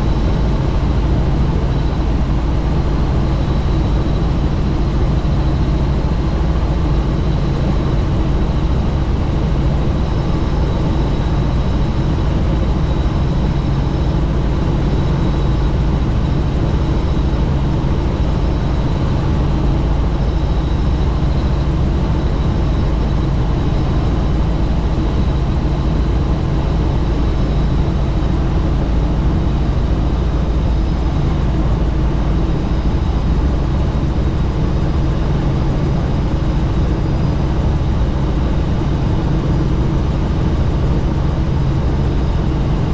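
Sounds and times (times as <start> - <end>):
helicopter rotor and engine: 0.0 - 42.9.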